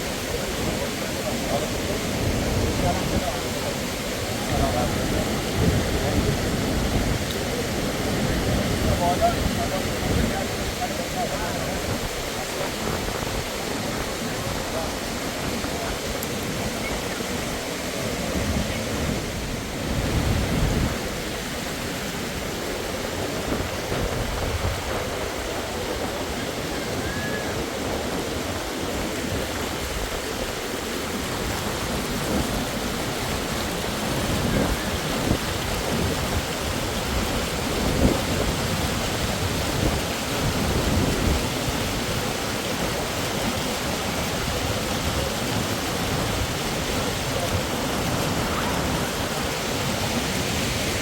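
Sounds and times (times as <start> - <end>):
waterfall rushing water: 0.0 - 51.0.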